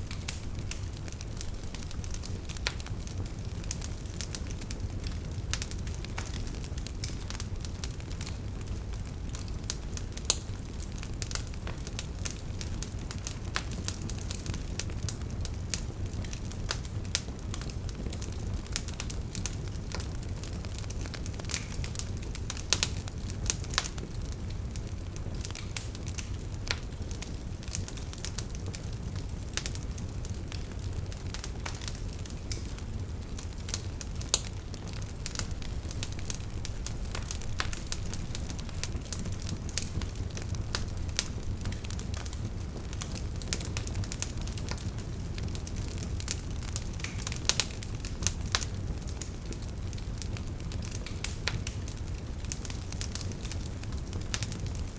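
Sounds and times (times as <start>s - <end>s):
campfire crackling and popping: 0.0s - 54.9s
low rumble of flames: 0.0s - 54.9s.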